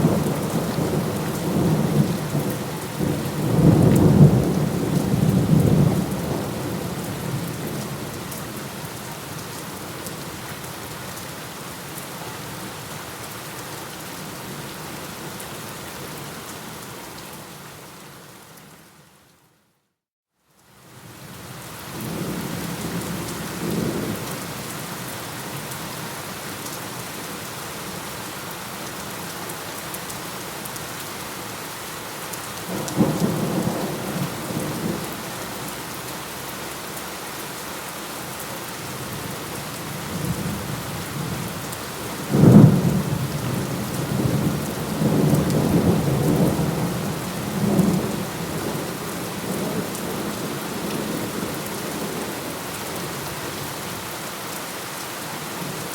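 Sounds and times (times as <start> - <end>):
heavy rain: 0.0 - 18.9, 20.6 - 55.9.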